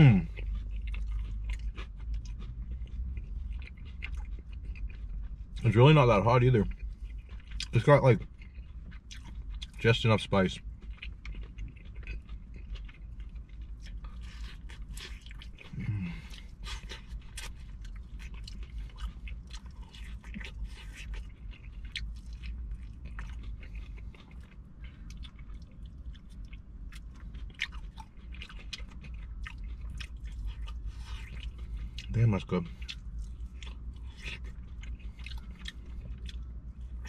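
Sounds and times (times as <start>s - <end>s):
chewing crispy fried chicken: 0.0s - 37.0s.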